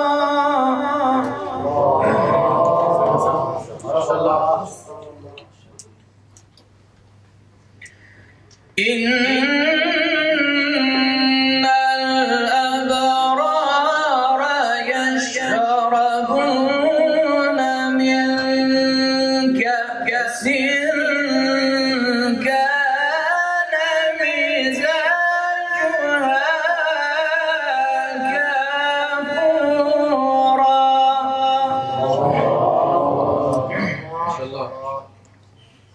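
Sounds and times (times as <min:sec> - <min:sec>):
man reciting melodically: 0:00.0 - 0:05.6, 0:08.7 - 0:35.2.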